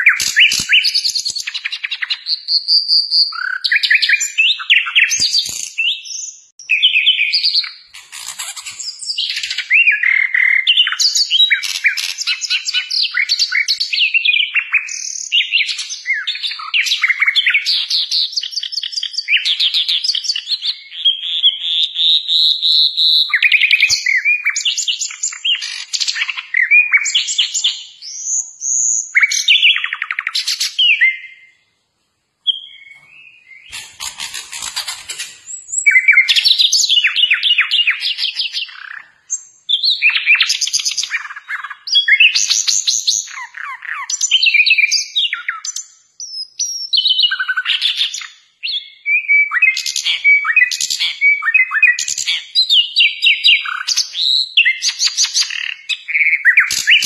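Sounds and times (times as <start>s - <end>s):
nightingale singing: 0.0s - 31.8s, 32.4s - 57.0s.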